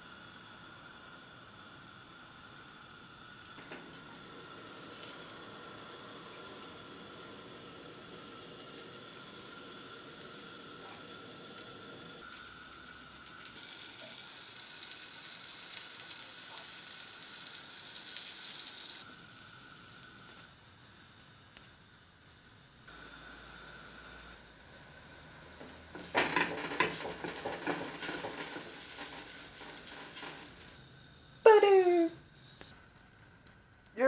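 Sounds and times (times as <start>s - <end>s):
butter sizzling in a frying pan: 0.0s - 31.4s.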